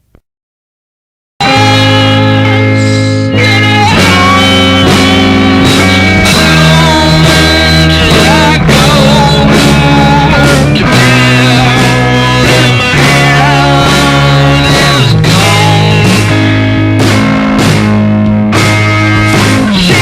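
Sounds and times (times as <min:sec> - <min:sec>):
rock music with guitar: 0:01.4 - 0:20.0.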